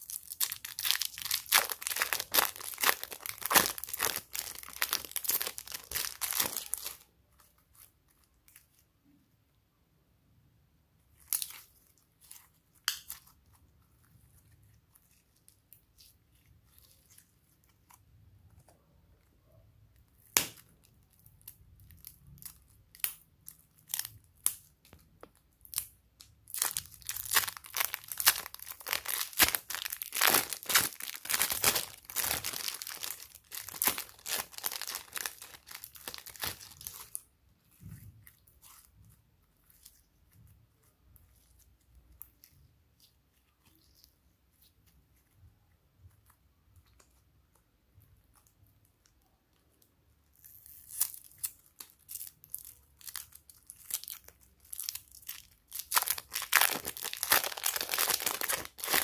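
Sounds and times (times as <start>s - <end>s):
slime bag crinkling and crackling: 0.0s - 8.9s, 11.1s - 18.0s, 20.1s - 45.2s, 48.3s - 59.0s.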